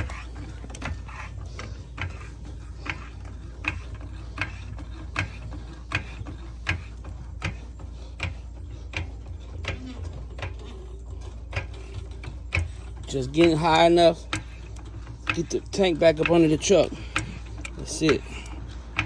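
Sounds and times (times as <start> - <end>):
jack clicking while pumped: 0.0 - 19.0.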